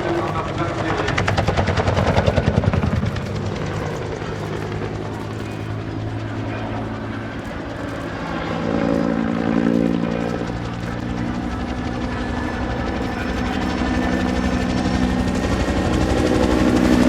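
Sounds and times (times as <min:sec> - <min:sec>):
helicopter flying: 0:00.0 - 0:17.0.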